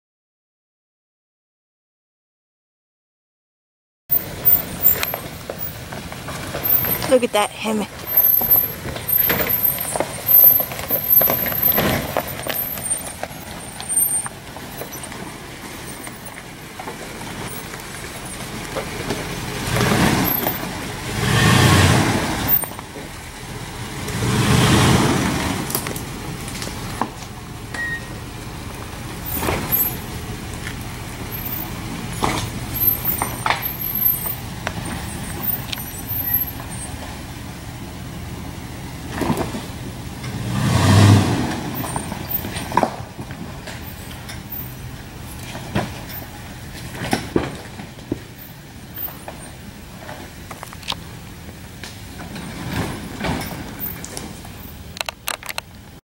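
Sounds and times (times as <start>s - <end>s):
pickup truck engine running: 4.1s - 56.0s.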